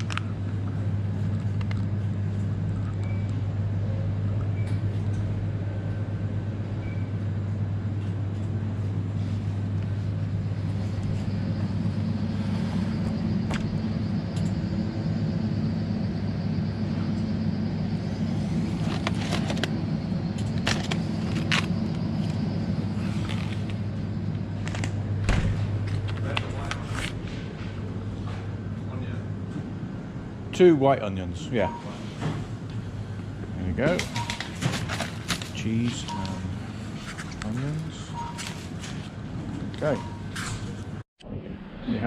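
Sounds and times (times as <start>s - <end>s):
refrigerator electrical hum: 0.0s - 42.0s.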